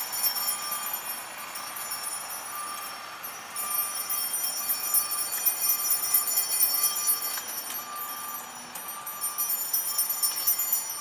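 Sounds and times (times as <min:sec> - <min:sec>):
vehicle backup alarm beeping: 0:00.0 - 0:11.0.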